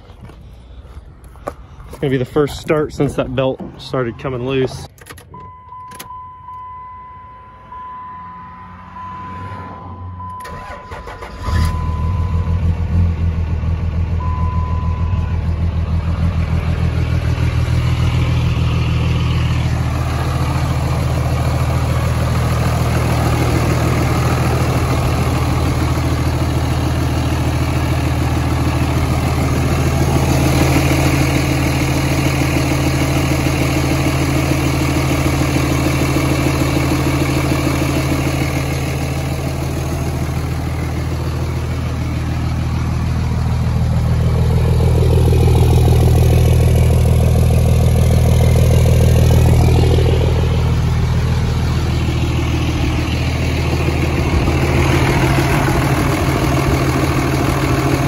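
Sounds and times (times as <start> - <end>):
diesel engine starting and idling: 0.0 - 58.0.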